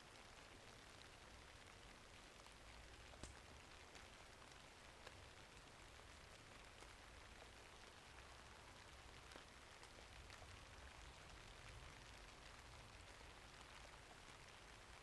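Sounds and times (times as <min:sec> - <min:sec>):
faint rainfall: 0:00.0 - 0:15.0
wood fire crackling: 0:00.0 - 0:15.0.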